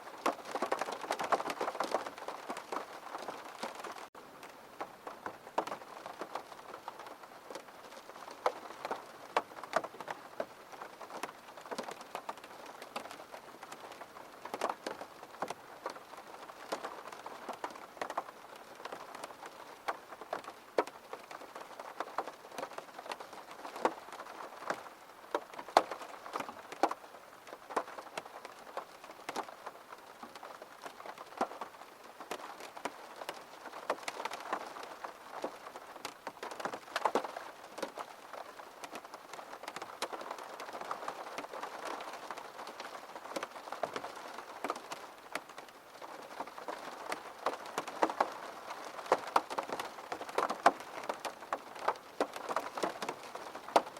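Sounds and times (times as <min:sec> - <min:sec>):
rain drops on a hard surface: 0:00.0 - 0:53.9.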